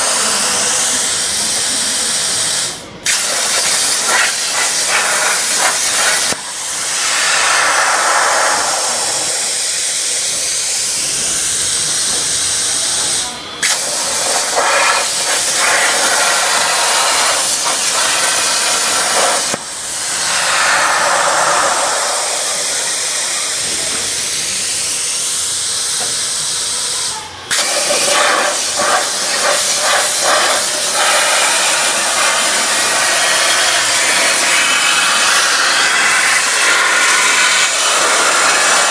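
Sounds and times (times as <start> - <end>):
plasma torch cutting hiss: 0.0 - 38.9.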